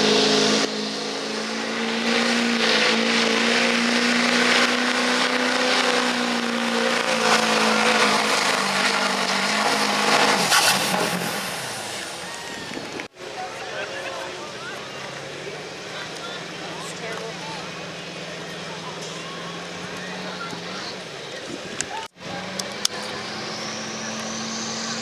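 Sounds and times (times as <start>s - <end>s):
diesel truck engine at high revs: 0.0s - 25.0s.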